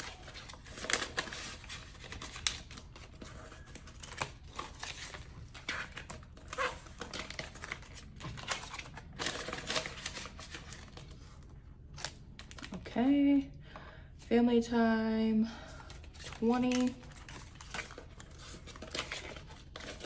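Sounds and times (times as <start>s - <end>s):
banknotes and pouches rustling: 0.0s - 12.8s, 15.8s - 20.0s.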